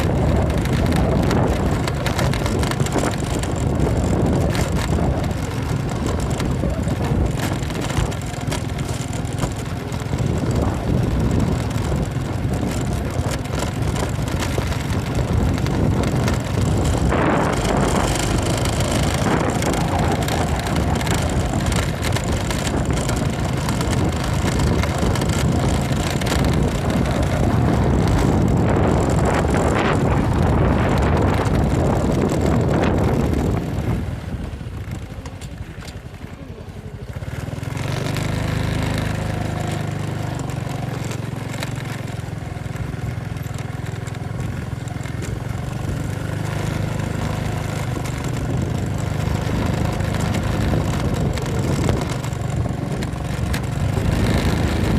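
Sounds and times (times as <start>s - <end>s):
motorcycle engine: 0.0s - 54.9s
wind and road noise: 0.0s - 54.9s.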